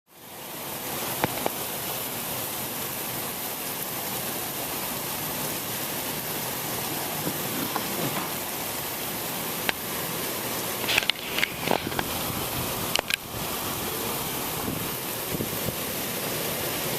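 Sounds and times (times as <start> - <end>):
heavy rain hissing: 0.1 - 16.9.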